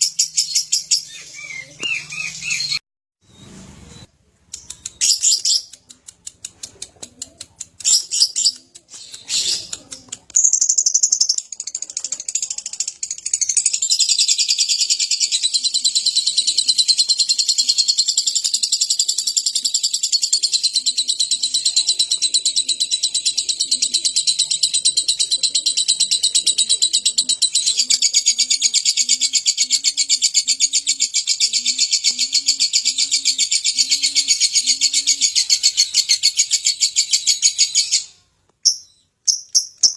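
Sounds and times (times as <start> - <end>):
lovebird chirping and trilling: 0.0 - 5.8, 7.8 - 39.9.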